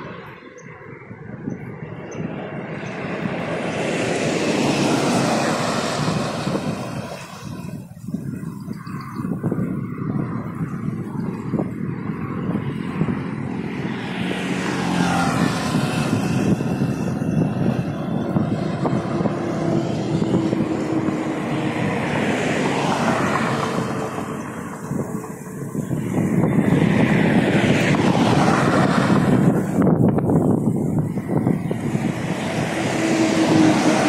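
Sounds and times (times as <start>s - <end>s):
highway traffic passing: 0.0s - 34.0s.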